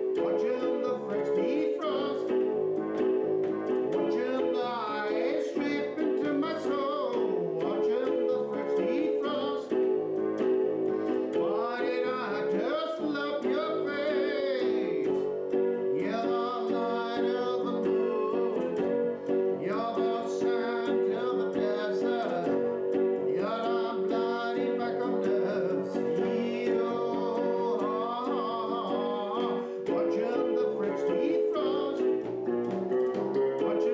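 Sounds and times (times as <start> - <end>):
man singing: 0.0 - 2.5, 4.0 - 9.9, 11.0 - 32.4, 33.0 - 33.9
electronic keyboard chords: 0.0 - 33.9.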